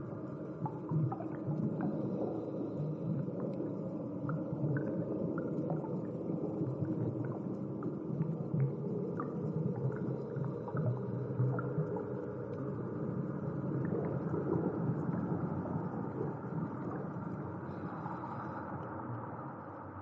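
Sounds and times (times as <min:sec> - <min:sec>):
low underwater rumble: 0:00.0 - 0:20.0.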